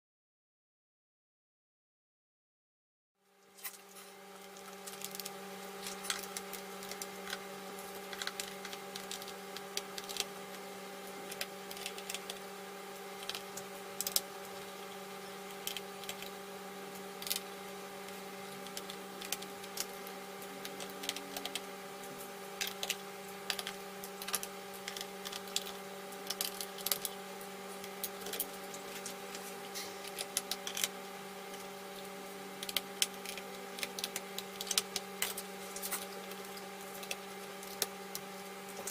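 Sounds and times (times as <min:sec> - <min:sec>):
low electrical hum: 0:03.2 - 0:38.9.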